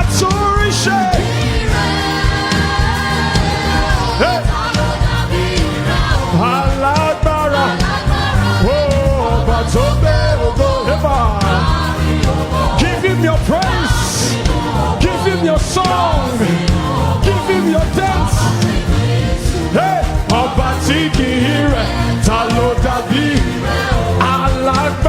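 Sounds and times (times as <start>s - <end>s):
band with bass and percussion: 0.0s - 25.0s
people singing: 0.0s - 25.0s.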